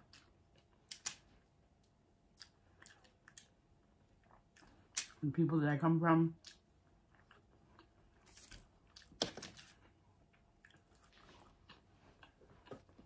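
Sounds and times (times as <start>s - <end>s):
person chewing food: 0.0s - 5.2s, 6.4s - 13.0s.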